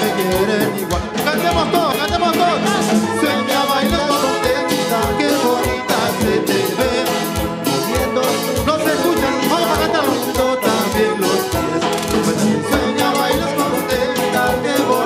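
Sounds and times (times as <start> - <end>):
cumbia band playing: 0.0 - 15.0
electric guitar: 0.0 - 15.0
percussion beat: 0.0 - 15.0.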